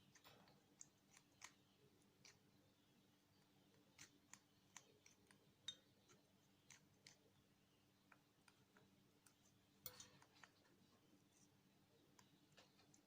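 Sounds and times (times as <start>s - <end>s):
parrot beak nibbling leaves: 0.0s - 2.6s, 3.3s - 13.0s.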